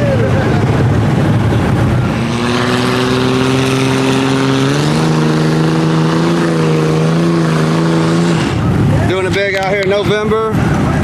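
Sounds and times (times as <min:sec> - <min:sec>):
truck engine revving high: 0:00.0 - 0:11.0.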